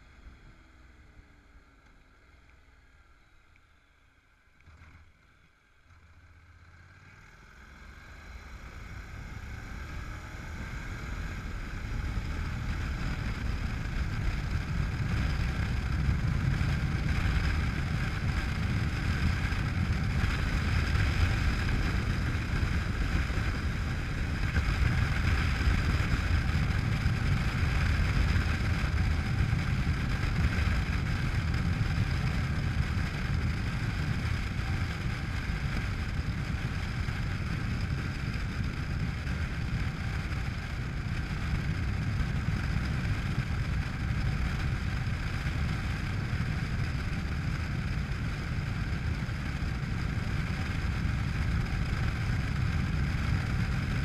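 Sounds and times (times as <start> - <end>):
motorcycle engine: 4.6 - 54.0
wind rush on microphone: 9.2 - 54.0.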